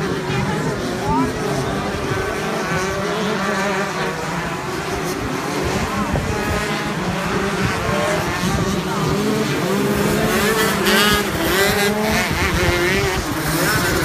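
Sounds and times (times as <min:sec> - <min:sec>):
kart engines racing: 0:00.0 - 0:14.0.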